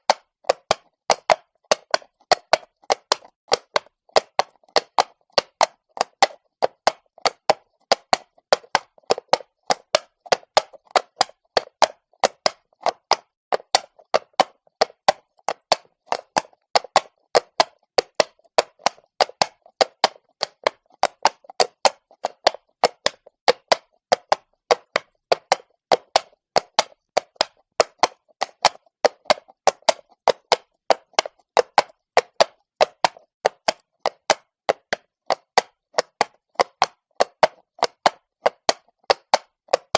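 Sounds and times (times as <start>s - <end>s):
horse hooves clopping on cobblestones: 0.0s - 39.9s.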